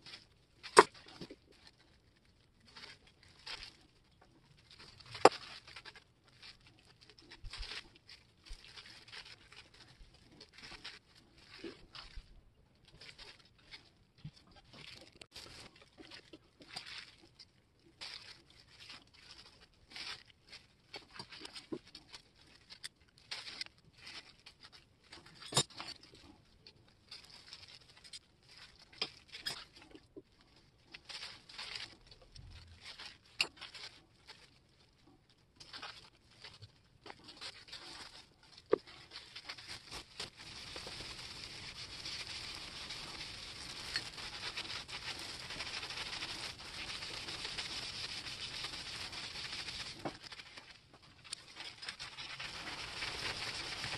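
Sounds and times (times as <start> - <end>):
plastic gloves crinkling: 0.0 - 53.9.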